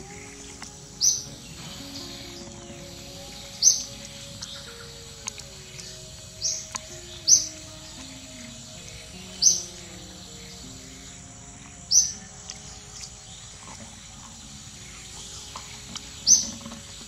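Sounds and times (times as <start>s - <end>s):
bird chirps: 0.0s - 17.0s
soft background music: 0.0s - 17.0s.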